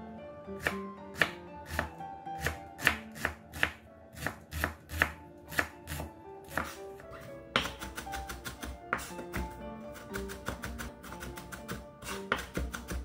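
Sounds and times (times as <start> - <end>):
knife chopping on wooden board: 0.6 - 13.0.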